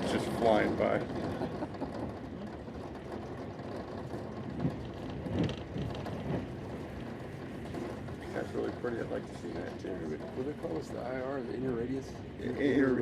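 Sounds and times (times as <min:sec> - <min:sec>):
train rumbling from inside carriage: 0:00.0 - 0:13.0
train wheels on rails: 0:00.0 - 0:13.0.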